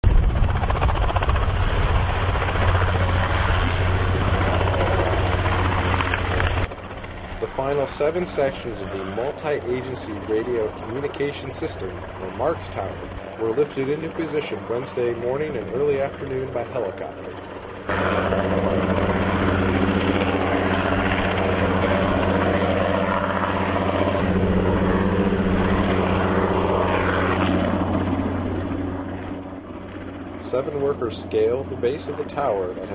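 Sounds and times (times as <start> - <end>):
helicopter rotor beating: 0.0 - 32.9
low hum: 0.0 - 32.9.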